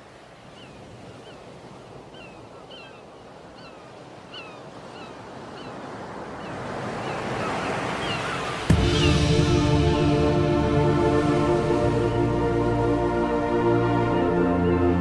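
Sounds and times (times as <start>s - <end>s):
surf washing on shore: 0.0s - 14.4s.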